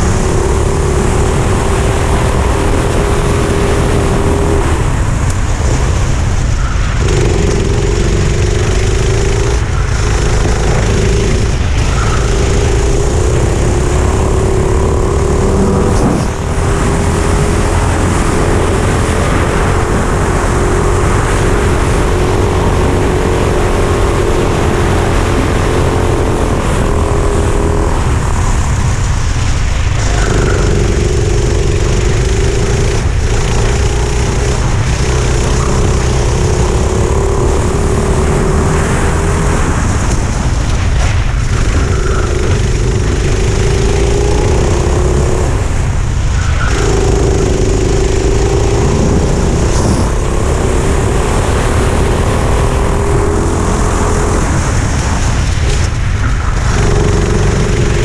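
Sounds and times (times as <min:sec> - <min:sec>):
kart engine racing: 0:00.0 - 0:58.0
wind rumble on microphone: 0:00.0 - 0:58.0.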